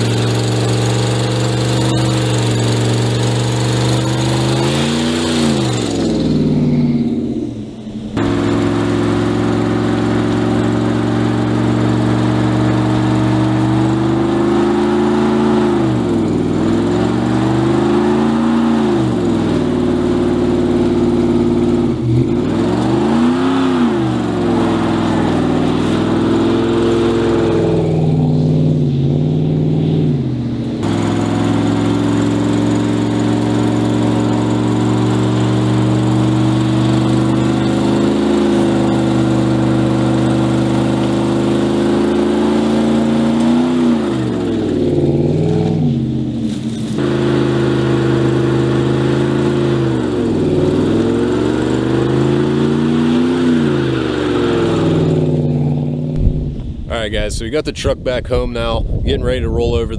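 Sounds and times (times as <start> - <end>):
engine revving hard: 0.0 - 57.2
tires spinning: 0.0 - 58.7.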